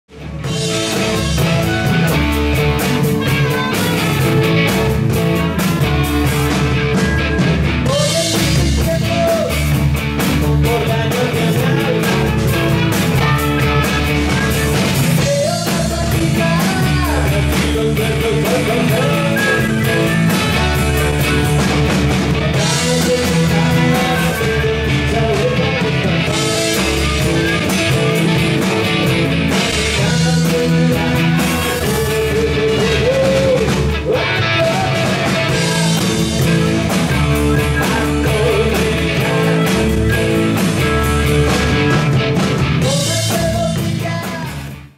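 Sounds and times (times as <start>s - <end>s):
bass guitar: 0.0s - 44.9s
drums: 0.0s - 44.9s
electric guitars: 0.1s - 44.9s
person singing: 0.4s - 7.0s, 7.8s - 21.7s, 22.4s - 42.2s, 42.8s - 44.9s.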